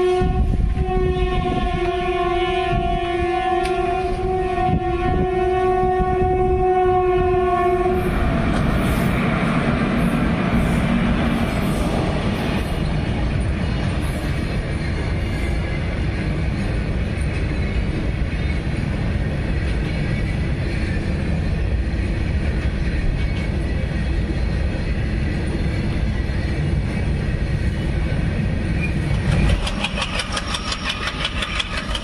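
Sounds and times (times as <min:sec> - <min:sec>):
goods train wagons rumbling past: 0:00.0 - 0:32.0.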